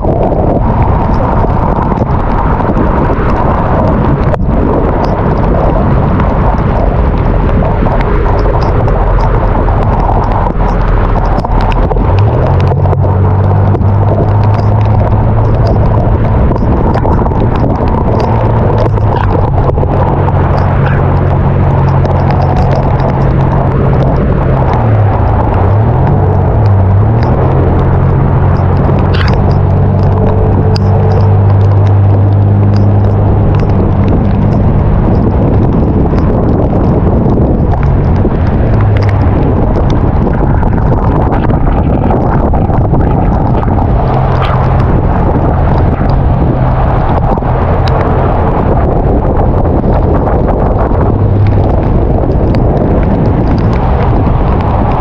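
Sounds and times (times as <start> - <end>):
loud rushing noise: 0.0 - 55.0
vehicle engine hum: 0.0 - 55.0.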